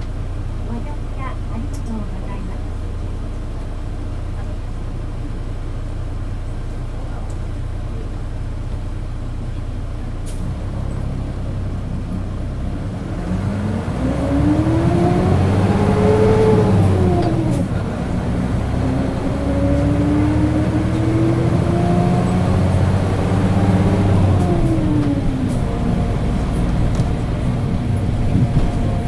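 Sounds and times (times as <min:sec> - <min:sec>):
bus engine accelerating: 0:00.0 - 0:29.0.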